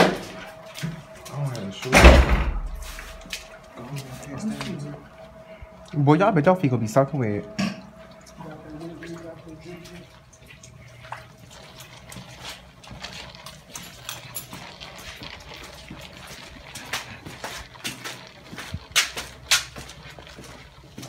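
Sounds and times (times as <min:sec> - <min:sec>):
footsteps splashing through water: 0:00.0 - 0:06.0, 0:07.0 - 0:21.0.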